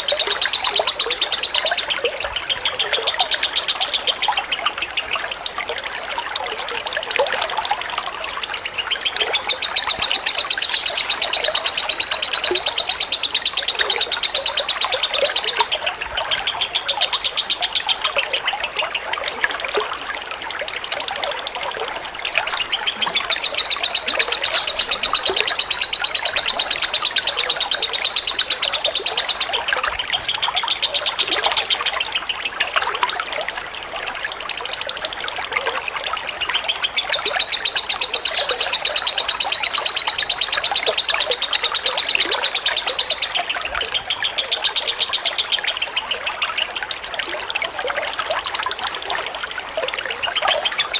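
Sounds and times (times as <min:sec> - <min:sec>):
bird chattering: 0:00.0 - 0:50.9
water trickling: 0:00.0 - 0:50.9.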